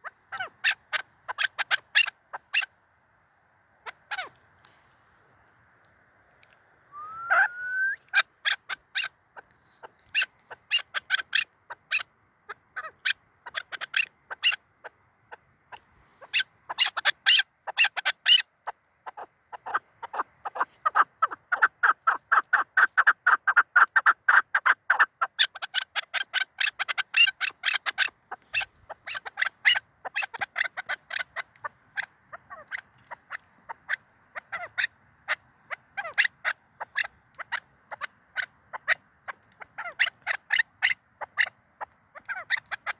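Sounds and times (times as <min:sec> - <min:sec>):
partridge clucking call: 0:00.0 - 0:02.7, 0:07.0 - 0:42.9.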